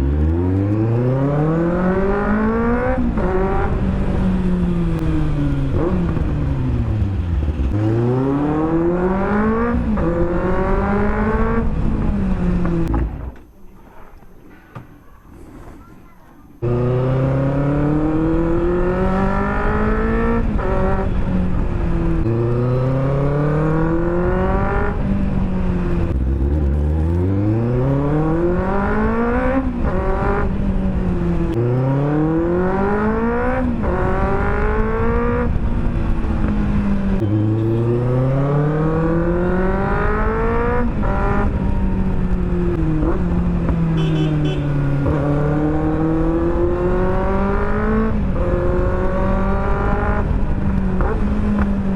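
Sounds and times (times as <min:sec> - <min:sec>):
motorcycle engine revving: 0:00.0 - 0:13.4, 0:16.6 - 0:51.9.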